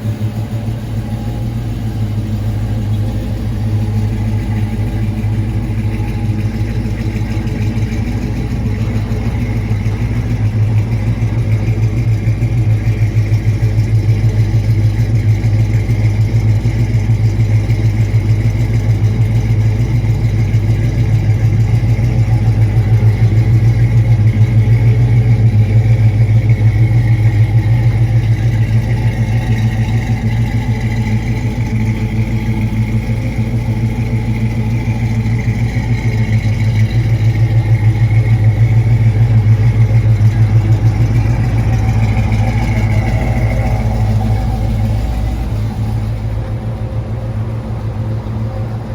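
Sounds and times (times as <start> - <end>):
car engine low exhaust note: 0.0 - 48.9.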